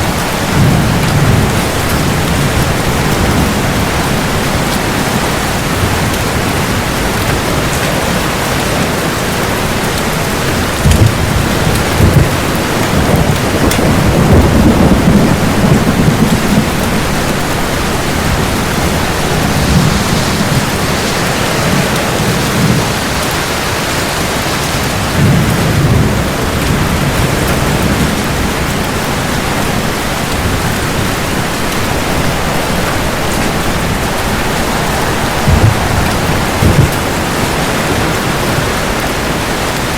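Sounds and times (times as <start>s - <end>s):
heavy rain hissing: 0.0s - 39.9s
thunder rumbling: 0.0s - 39.9s.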